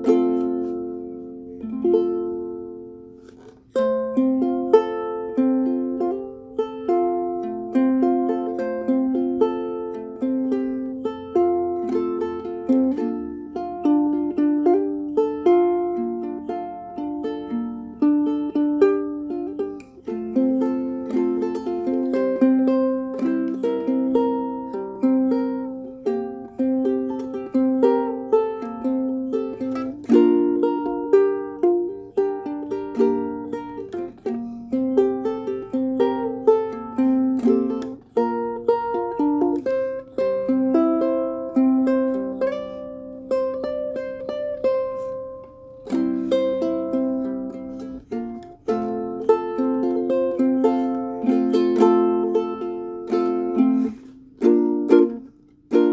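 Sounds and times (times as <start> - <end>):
ukulele plucked melody over chords: 0.0 - 55.9.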